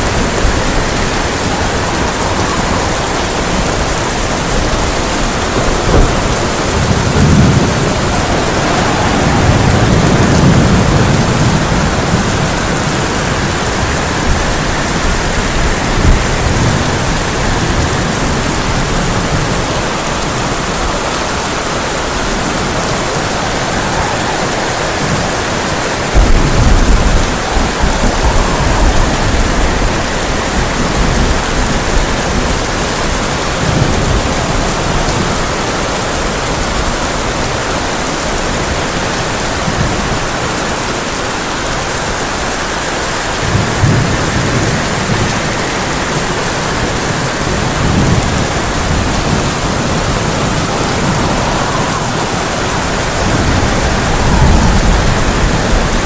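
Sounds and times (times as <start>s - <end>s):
loud thunder clap: 0.0s - 40.2s, 43.3s - 56.0s
heavy rain on a tin roof: 0.0s - 56.0s
thunder rumbling: 0.0s - 56.0s.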